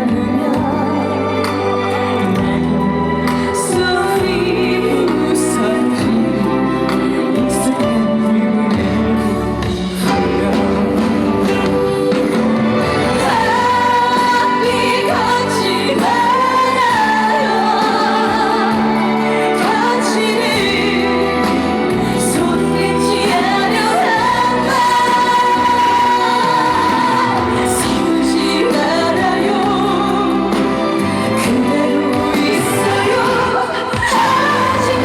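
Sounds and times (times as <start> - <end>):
woman singing slow song: 0.0 - 9.4, 10.0 - 35.0
band accompaniment: 0.0 - 35.0.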